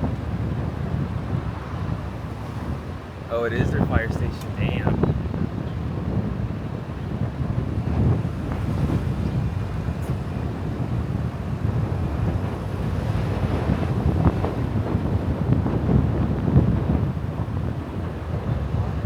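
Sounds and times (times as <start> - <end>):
car road noise rumble: 0.0 - 19.0
wind buffeting microphone: 0.0 - 19.0.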